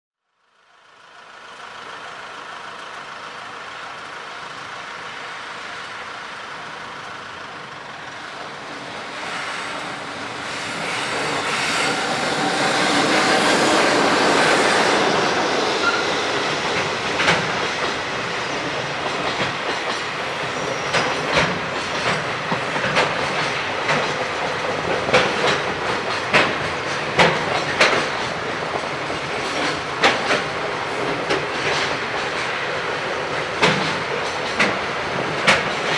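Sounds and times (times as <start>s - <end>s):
electric locomotive passing: 0.8s - 35.9s.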